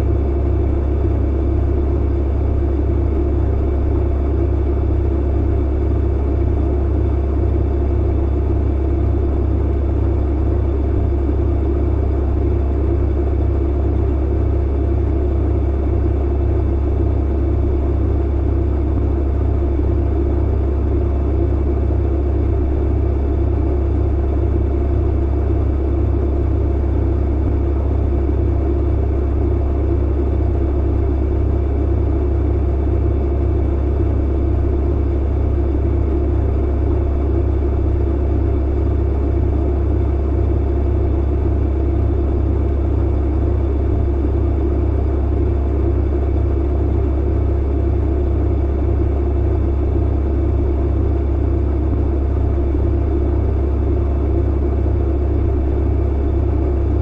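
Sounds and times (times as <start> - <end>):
tumble dryer running: 7.5 - 57.0.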